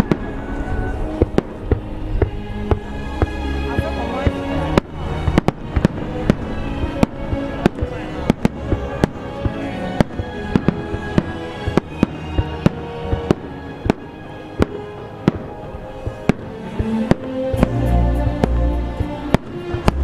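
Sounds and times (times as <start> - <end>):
fireworks bursting: 0.0 - 20.0
music playing: 0.0 - 20.0.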